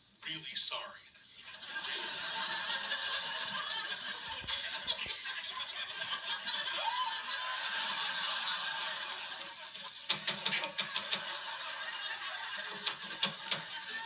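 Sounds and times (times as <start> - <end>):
studio audience laughing: 1.4 - 14.0.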